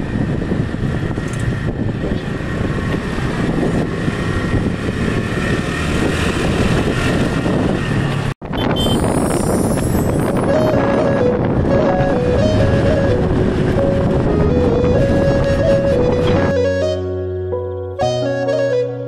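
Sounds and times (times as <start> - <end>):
wind on microphone: 0.0 - 16.6
vehicle engine and road rumble: 0.0 - 18.7.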